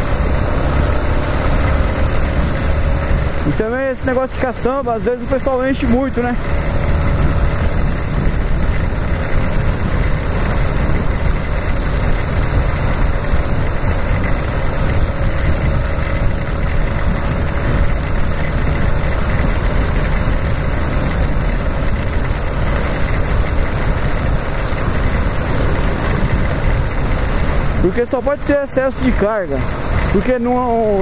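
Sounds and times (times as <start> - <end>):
motorcycle engine cruising: 0.0 - 31.0
wind rush: 0.0 - 31.0.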